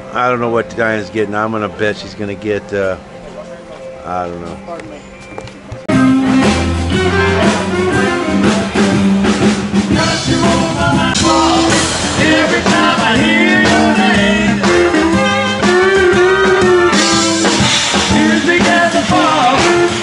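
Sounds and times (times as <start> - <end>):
blues band playing: 0.0 - 20.0.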